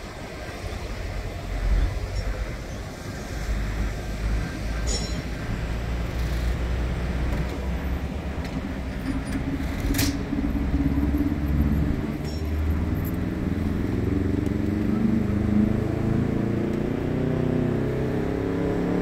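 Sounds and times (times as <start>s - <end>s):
nearer car engine: 0.0s - 19.0s
vehicle engines rumbling: 0.0s - 19.0s.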